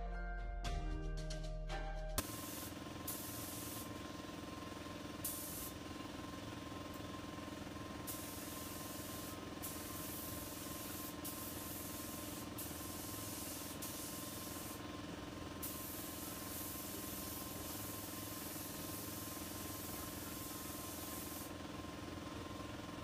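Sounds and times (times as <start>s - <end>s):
paint spray gun hissing: 2.2s - 23.0s.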